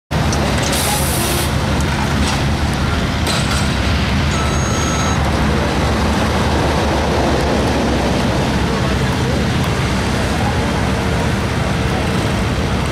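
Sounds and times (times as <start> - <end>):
excavator diesel engine running: 0.1 - 12.9.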